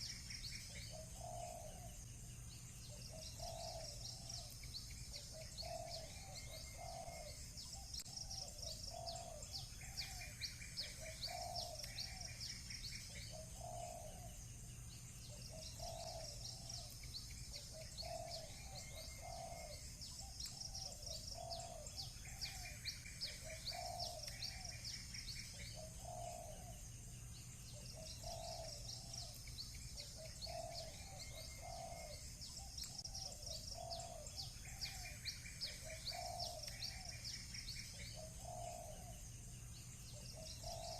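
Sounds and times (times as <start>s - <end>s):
bird trills: 0.0s - 2.0s, 2.6s - 40.9s
low cooing bird call: 0.0s - 40.9s
small birds chirping: 0.0s - 40.9s.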